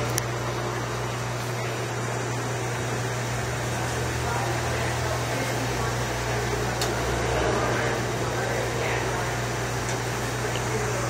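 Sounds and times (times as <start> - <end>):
dishwasher running hum: 0.0 - 11.0.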